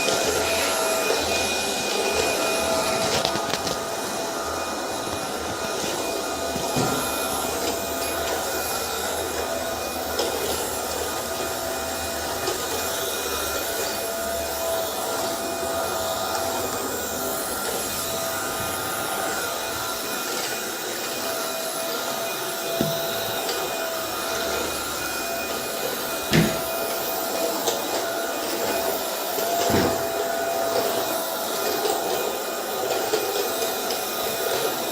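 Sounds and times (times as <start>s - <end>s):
vacuum cleaner motor whine: 0.0s - 34.9s.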